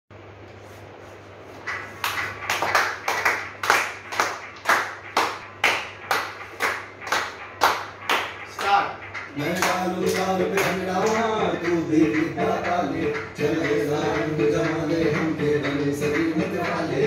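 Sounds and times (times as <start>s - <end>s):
hands clapping a beat: 1.6s - 17.0s.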